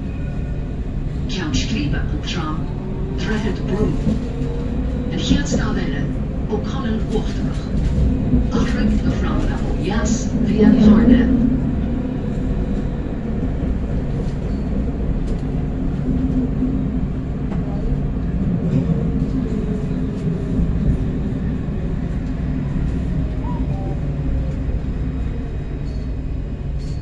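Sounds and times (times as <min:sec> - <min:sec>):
tram rumbling: 0:00.0 - 0:27.0.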